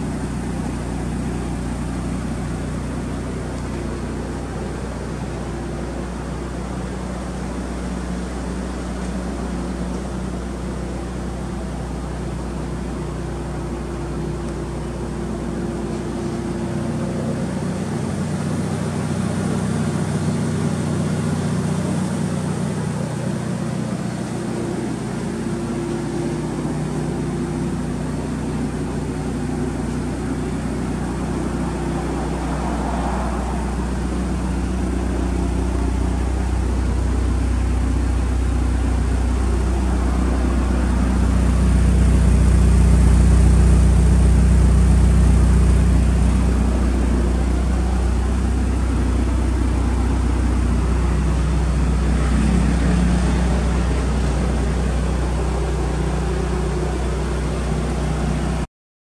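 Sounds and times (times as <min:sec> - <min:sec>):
car engine idling: 0:00.0 - 0:58.7.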